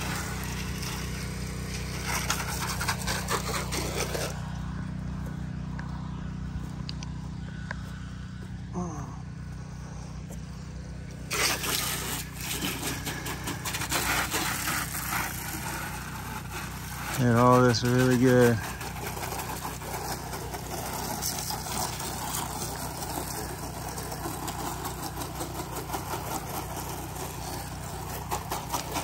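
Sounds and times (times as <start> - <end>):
spray wand hissing: 0.0 - 5.0, 9.9 - 29.0
low motor hum: 0.0 - 29.0.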